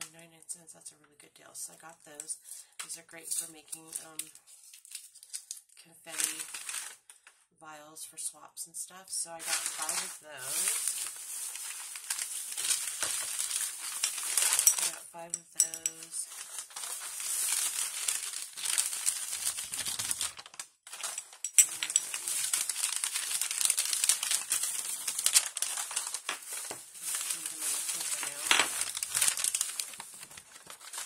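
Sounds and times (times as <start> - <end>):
plastic bag and paper crinkling: 2.4 - 7.1, 9.4 - 15.0, 15.6 - 31.0.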